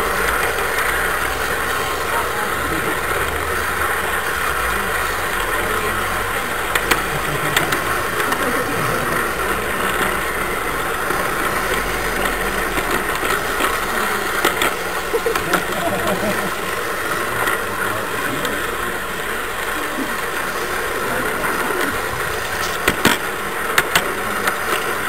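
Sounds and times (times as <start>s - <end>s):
model train rolling on rails: 0.0s - 25.0s.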